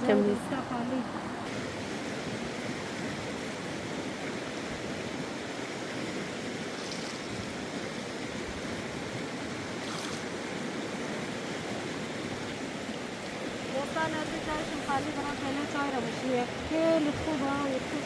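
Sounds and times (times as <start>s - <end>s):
flowing stream: 0.0s - 18.0s.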